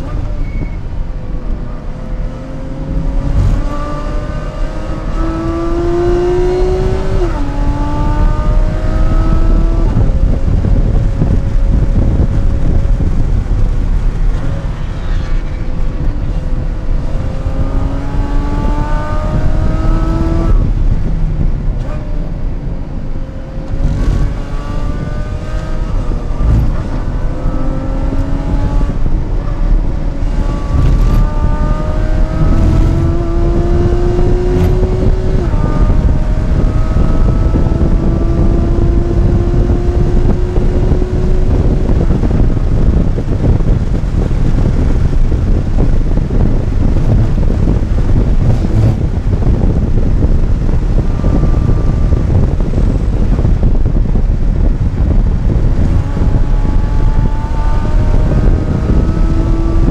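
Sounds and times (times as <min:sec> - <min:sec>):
car engine accelerating: 0:00.0 - 0:59.9
wind and road rumble: 0:00.0 - 0:59.9.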